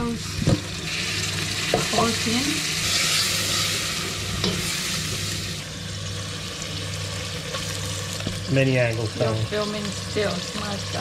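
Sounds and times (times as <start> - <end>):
tomatoes sizzling in a pot: 0.0 - 11.0.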